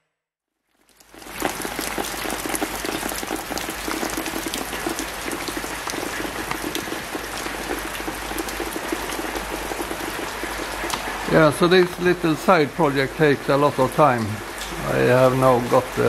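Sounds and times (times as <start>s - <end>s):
rain on gravel and timber: 0.6s - 16.0s.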